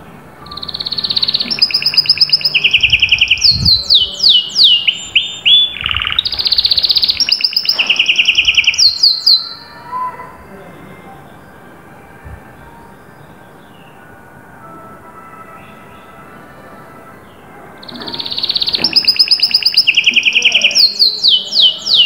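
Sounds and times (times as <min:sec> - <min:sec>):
canary singing trills: 0:00.4 - 0:14.2, 0:17.2 - 0:22.0.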